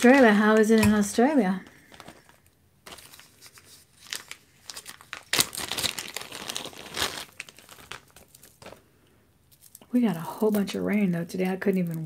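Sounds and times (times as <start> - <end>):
packaging crackling and rustling: 0.0 - 8.9, 9.5 - 12.0.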